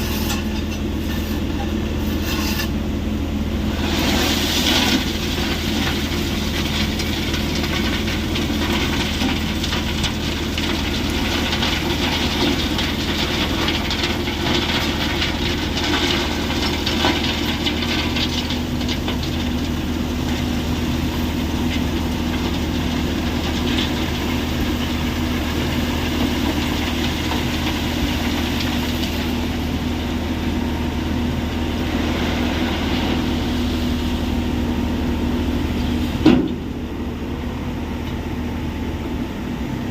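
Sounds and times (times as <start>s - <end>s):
heavy machinery hum: 0.0s - 39.9s.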